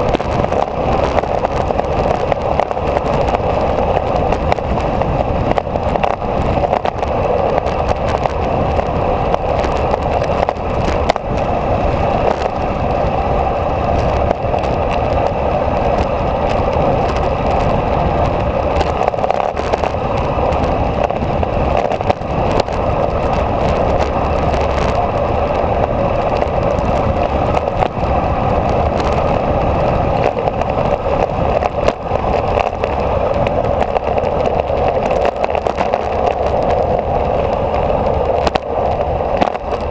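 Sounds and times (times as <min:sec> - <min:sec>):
road rolling noise: 0:00.0 - 0:39.9
small crackles and clicks: 0:00.0 - 0:39.9
wind rushing on microphone: 0:00.0 - 0:39.9.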